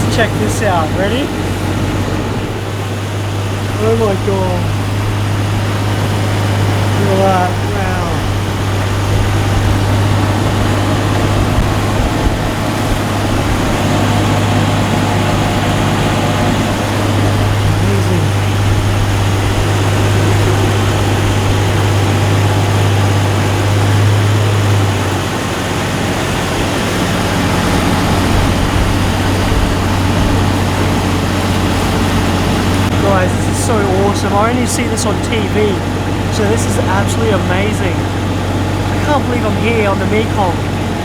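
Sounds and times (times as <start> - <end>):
boat engine humming: 0.0 - 41.0.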